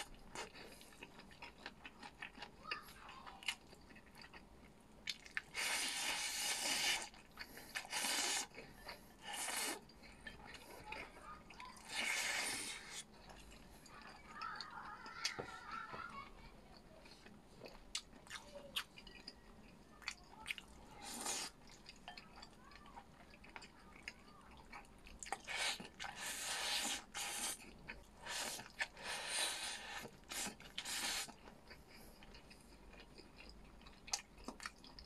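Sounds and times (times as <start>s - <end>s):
person chewing food: 0.0s - 35.0s.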